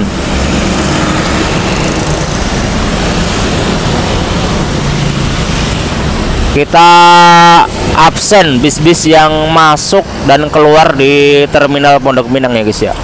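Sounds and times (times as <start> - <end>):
diesel bus engine drone: 0.0 - 13.0.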